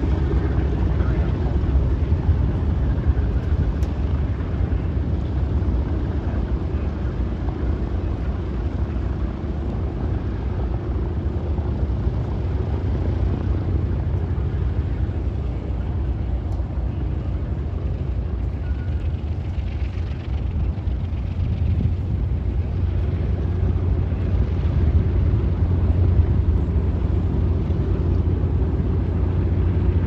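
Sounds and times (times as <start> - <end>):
propeller engines drone: 0.0 - 30.0.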